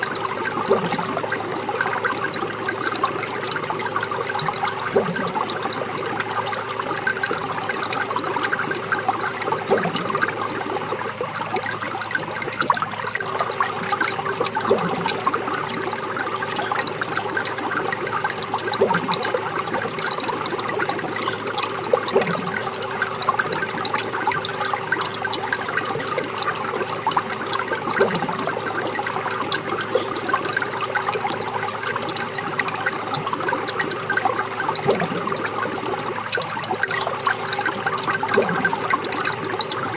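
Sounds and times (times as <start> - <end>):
water plop: 0.0 - 39.9
water trickling down rain chain: 0.0 - 39.9.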